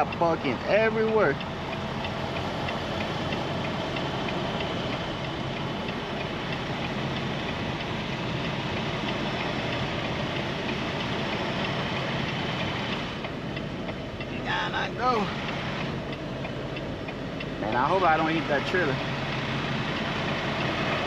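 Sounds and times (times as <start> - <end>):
diesel truck engine running slowly: 0.0 - 21.0
faint regular ticking: 0.0 - 21.0.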